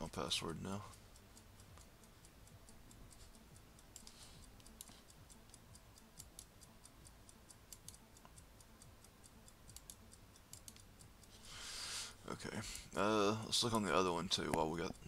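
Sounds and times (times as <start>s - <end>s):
faint rapid ticking: 0.0s - 15.0s.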